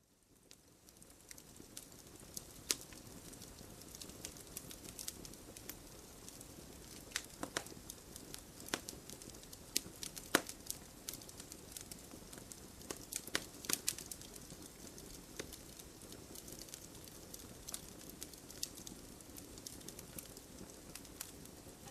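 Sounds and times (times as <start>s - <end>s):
campfire crackling and popping: 0.2s - 21.9s
hiss of burning wood: 0.2s - 21.9s.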